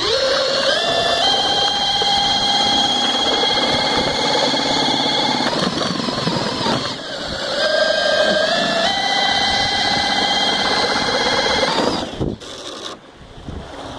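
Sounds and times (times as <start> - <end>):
cordless drill motor whining: 0.0 - 13.0.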